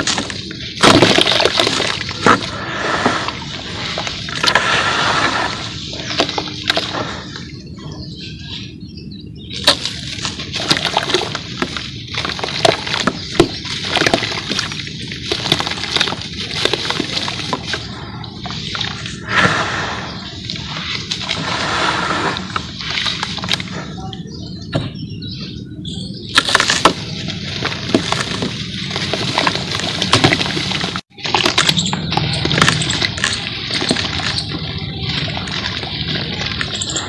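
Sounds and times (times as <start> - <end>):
wet paste squelching in a bowl: 0.0 - 7.6, 9.5 - 24.0, 26.3 - 37.0.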